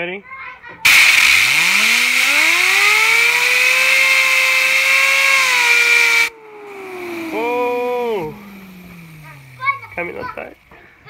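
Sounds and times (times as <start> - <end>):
compressed air hissing: 0.9 - 10.2
fidget spinner whine: 0.9 - 10.7.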